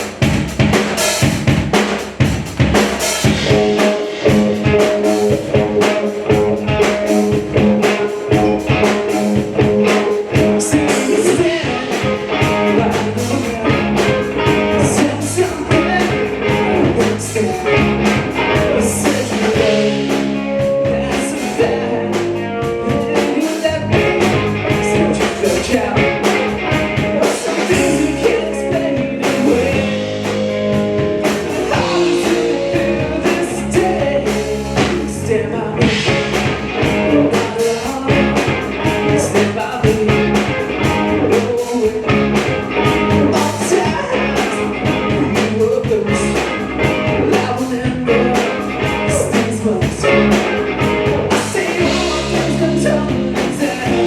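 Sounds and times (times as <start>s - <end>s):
drum kit beat: 0.0s - 54.0s
rock band playing live: 0.0s - 54.0s.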